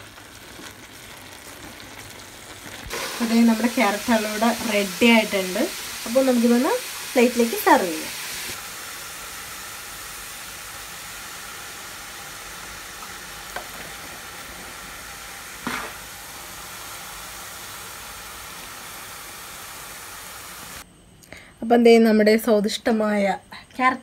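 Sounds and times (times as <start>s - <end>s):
food sizzling in ghee: 0.0s - 20.8s.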